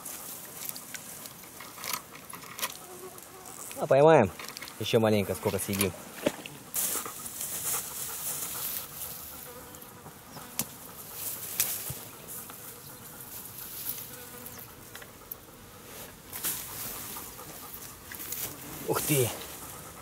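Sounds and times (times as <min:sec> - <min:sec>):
insect buzzing: 0:00.0 - 0:20.0.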